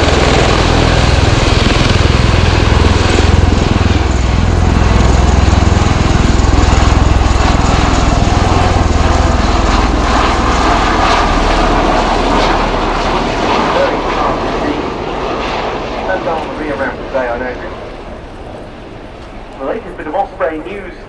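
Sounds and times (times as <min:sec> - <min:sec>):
aircraft rotor and engine noise: 0:00.0 - 0:21.0.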